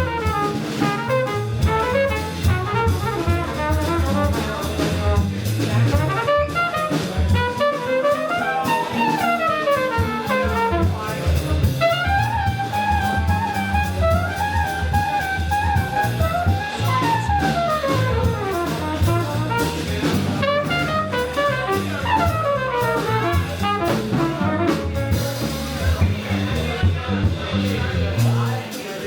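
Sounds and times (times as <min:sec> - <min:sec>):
horn playing melody: 0:00.0 - 0:26.7
bass: 0:00.0 - 0:29.0
drum kit with cymbals: 0:00.0 - 0:29.0.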